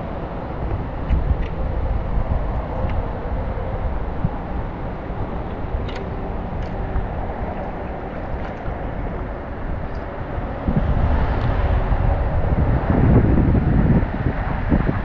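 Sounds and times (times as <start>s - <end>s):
river water rushing: 0.0s - 12.9s
wind buffeting microphone: 0.0s - 15.0s.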